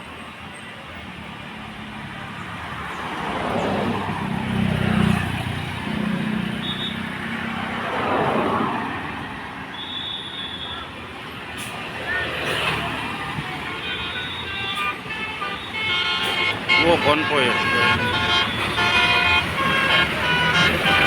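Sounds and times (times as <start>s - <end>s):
vehicles driving past: 0.0s - 21.0s.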